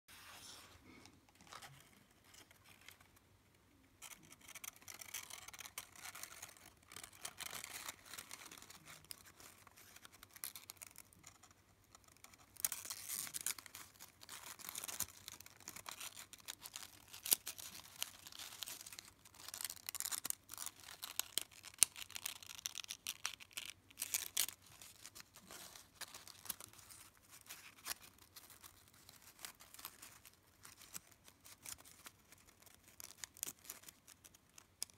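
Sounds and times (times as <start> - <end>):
paper rustling and crinkling: 4.0 - 11.3, 12.3 - 34.9.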